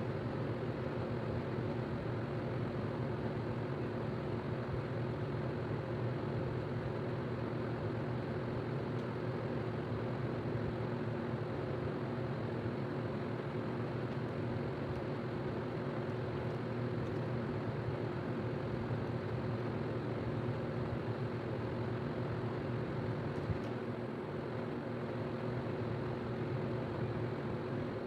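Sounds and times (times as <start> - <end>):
mechanical hum with low drone: 0.0 - 28.0.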